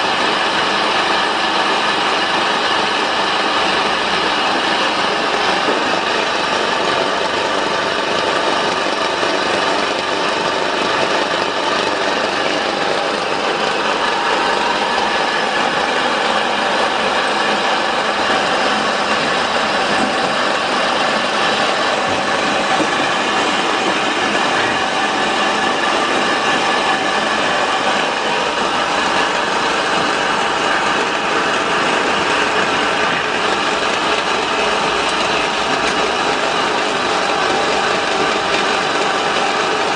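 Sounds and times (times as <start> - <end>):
pellet mill mechanical drone: 0.0 - 39.9.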